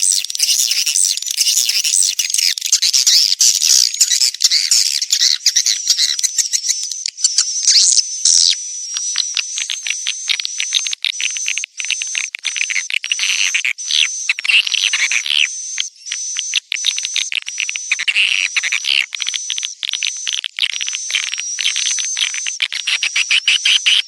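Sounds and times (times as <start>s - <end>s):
birds twittering and clicking: 0.0s - 24.0s.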